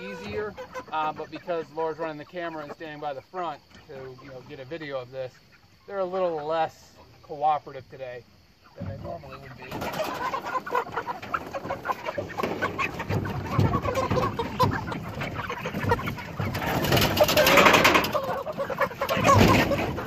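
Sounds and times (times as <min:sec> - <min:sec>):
chickens clucking and squawking: 0:00.0 - 0:20.0.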